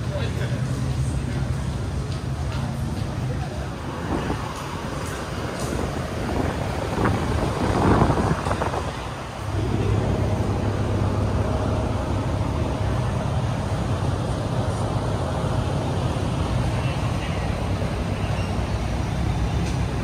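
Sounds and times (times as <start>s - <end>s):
car engine humming: 0.0s - 20.0s
rushing engine surge: 3.8s - 20.0s.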